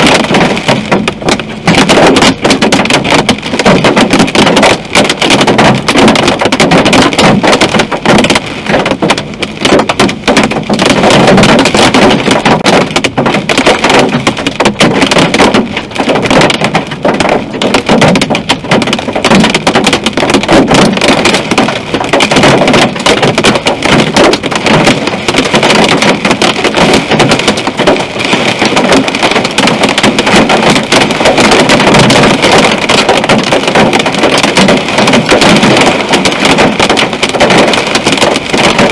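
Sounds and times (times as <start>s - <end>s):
hail and rain on car roof: 0.0s - 38.9s.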